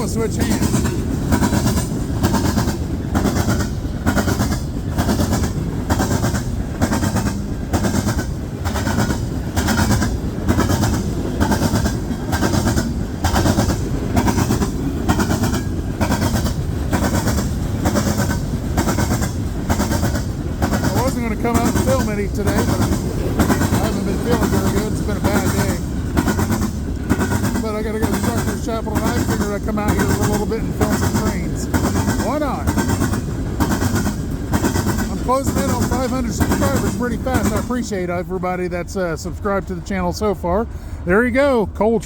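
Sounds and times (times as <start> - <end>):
wheels clacking over rails: 0.0 - 40.4
train cars rumbling past: 0.0 - 42.0.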